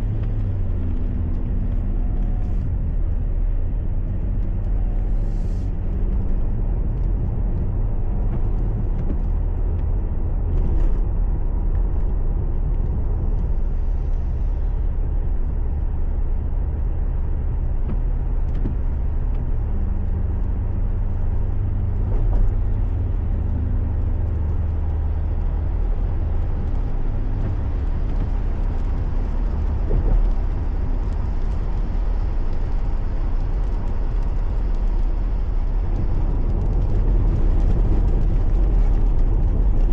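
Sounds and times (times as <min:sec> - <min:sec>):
car cabin road rumble: 0:00.0 - 0:39.9
faint engine hum: 0:00.0 - 0:39.9.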